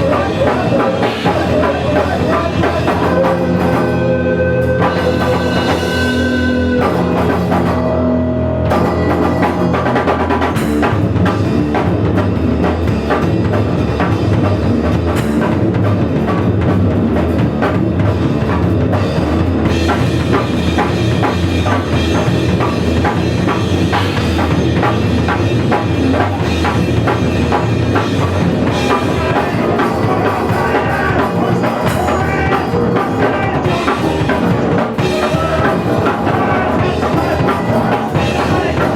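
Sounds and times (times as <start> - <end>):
bass guitar: 0.0 - 38.9
fast rock drumming: 0.0 - 38.9.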